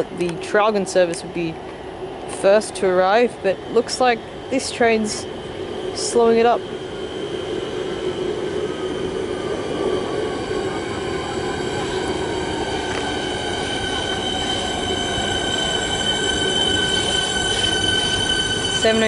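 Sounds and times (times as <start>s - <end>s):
train running rumble: 0.0s - 19.0s
train brakes squealing: 3.2s - 19.0s.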